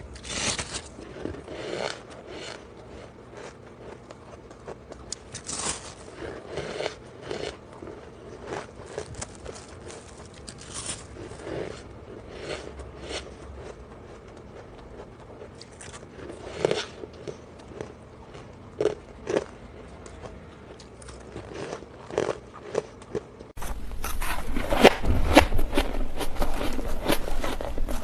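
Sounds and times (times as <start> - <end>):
ice crunching while chewed: 0.0 - 28.0.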